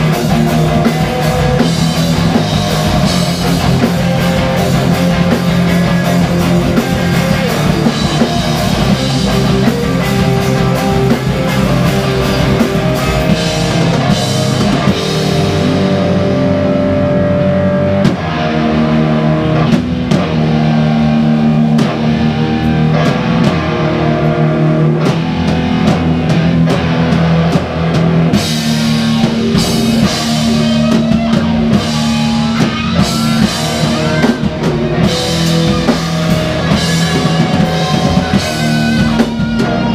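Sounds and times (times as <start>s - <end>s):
rock band playing loudly: 0.0s - 39.9s.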